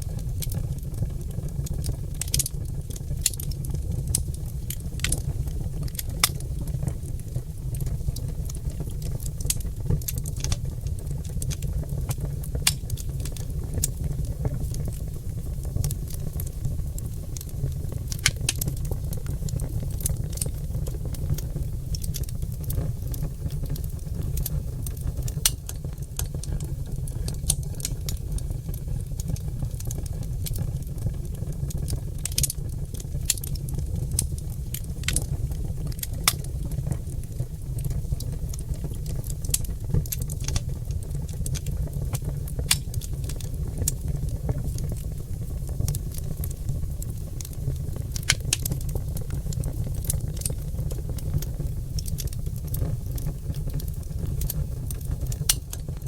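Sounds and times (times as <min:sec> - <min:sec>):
fire low rumble: 0:00.0 - 0:56.0
logs crackling and popping: 0:00.1 - 0:56.0.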